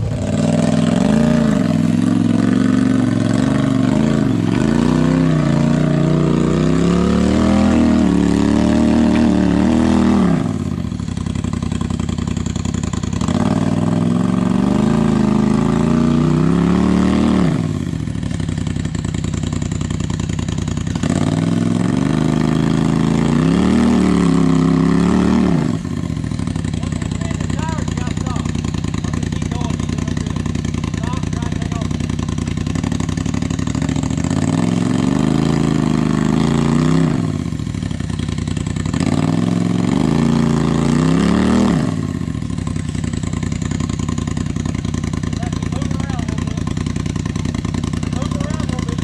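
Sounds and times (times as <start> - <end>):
buggy engine revving: 0.0 - 49.0.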